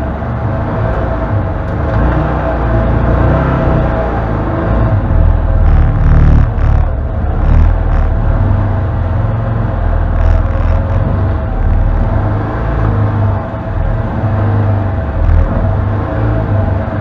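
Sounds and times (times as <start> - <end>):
engine rumble with whine: 0.0 - 17.0.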